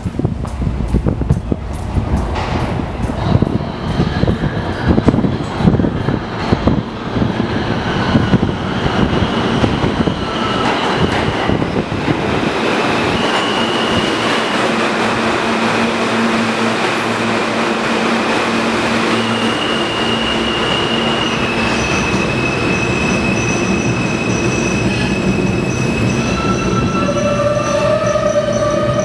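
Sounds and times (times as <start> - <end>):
train rumble: 0.0 - 29.0
train wheels clacking: 0.0 - 29.0.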